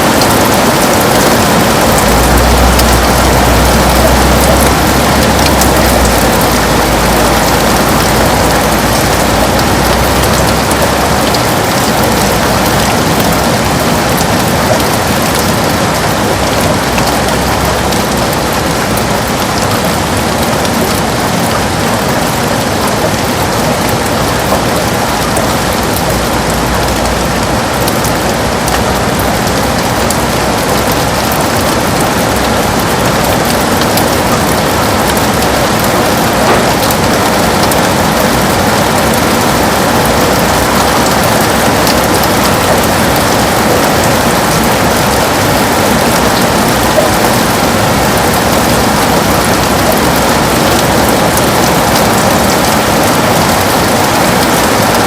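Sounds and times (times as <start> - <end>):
heavy rain against a window: 0.0 - 55.0.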